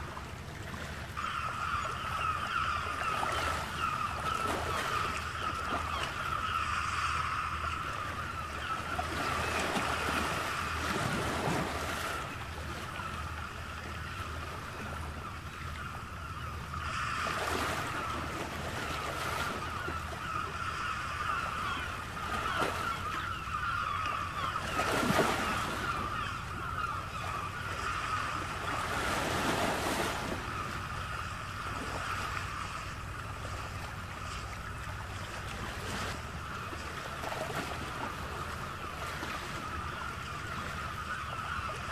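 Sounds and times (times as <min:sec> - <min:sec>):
ocean waves washing in: 0:00.0 - 0:41.9.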